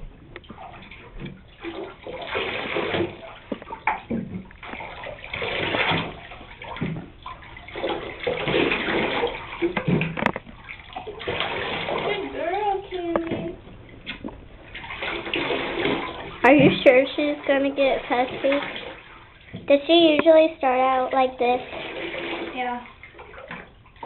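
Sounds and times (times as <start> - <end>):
running water splashing: 0.0 - 24.0.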